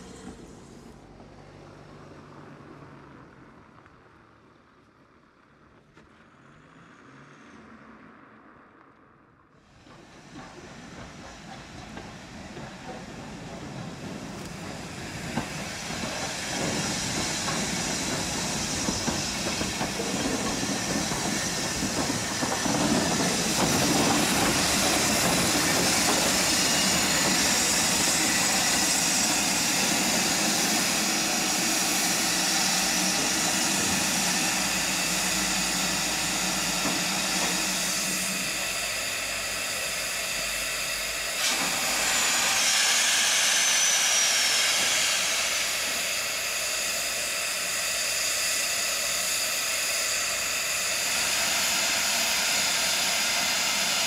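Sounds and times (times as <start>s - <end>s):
steam locomotive hissing steam: 0.0s - 1.0s, 9.6s - 54.0s
rush of steam: 0.0s - 1.4s, 9.6s - 54.0s.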